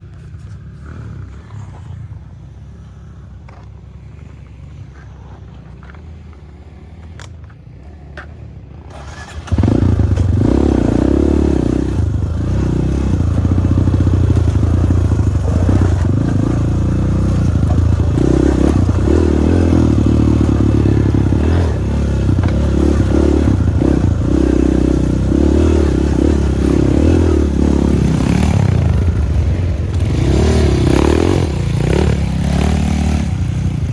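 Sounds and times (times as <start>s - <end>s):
dirt bike engine: 0.0s - 33.9s.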